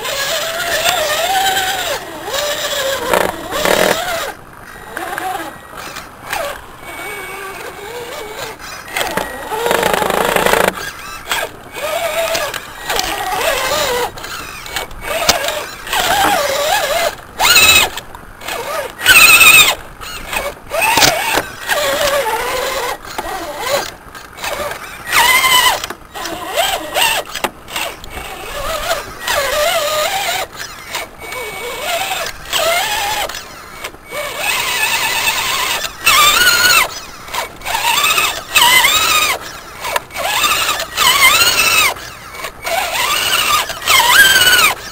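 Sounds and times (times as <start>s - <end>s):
rc truck motor whining: 0.0s - 44.9s.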